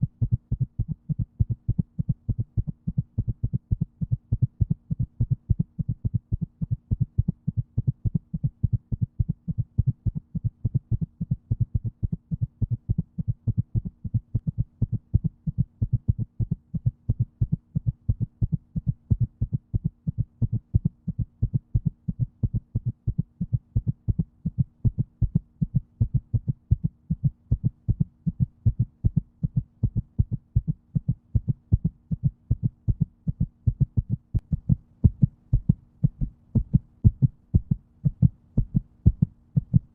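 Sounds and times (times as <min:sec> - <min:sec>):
constant low hum: 0:00.0 - 0:39.9
heartbeat: 0:00.0 - 0:39.9.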